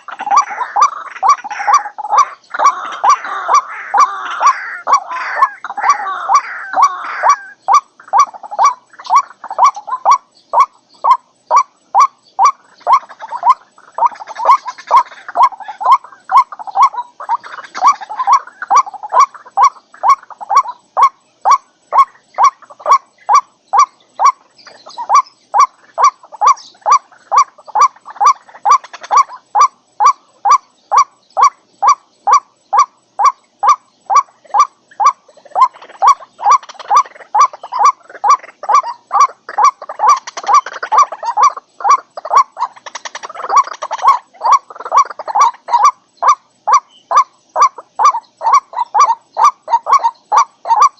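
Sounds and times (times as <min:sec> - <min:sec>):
bird repeated calling note: 0:00.0 - 0:50.9
rough croaking calls: 0:00.0 - 0:50.9.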